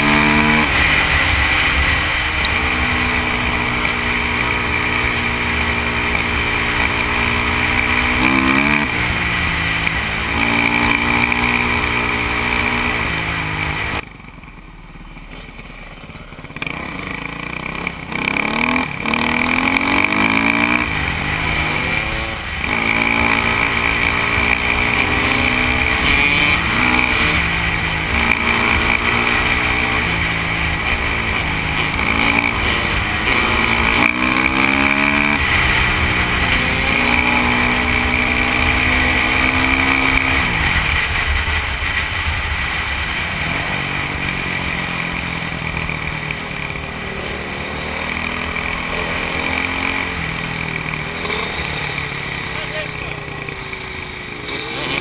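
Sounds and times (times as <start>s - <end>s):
dirt bike engine revving: 0.0s - 14.0s, 15.1s - 55.0s.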